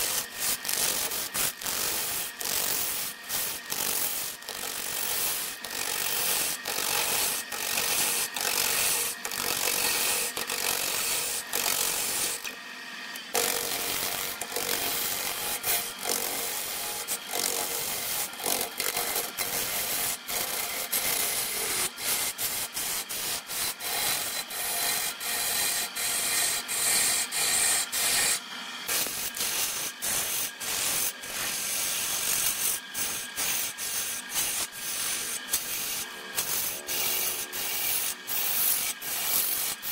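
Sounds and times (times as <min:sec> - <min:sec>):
lathe tool scraping wood: 0:00.0 - 0:39.9.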